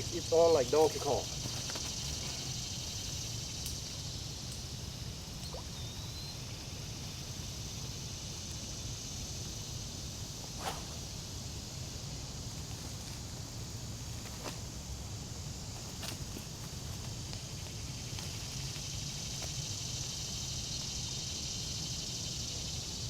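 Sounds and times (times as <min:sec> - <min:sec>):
high hiss: 0:00.0 - 0:23.0.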